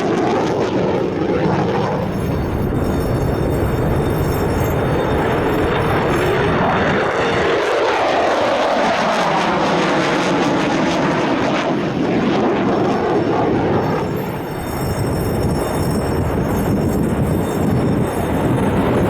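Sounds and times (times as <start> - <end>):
fighter jet engine passing: 0.0 - 19.0.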